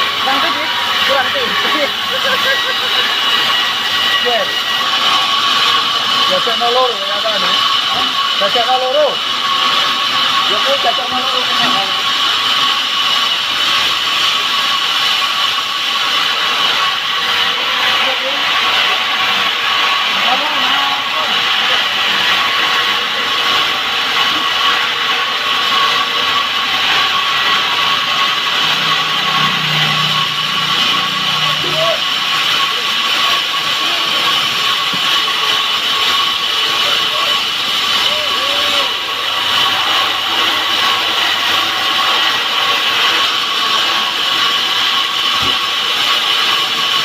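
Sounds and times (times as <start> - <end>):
engine-driven saw cutting wood: 0.0 - 47.0.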